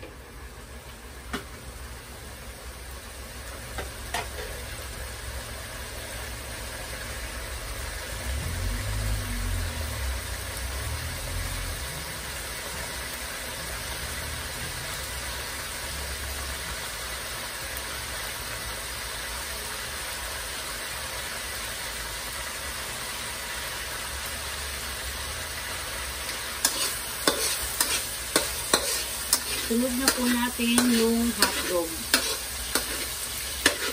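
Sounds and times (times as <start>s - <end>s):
meat sizzling in wok: 0.0s - 33.9s.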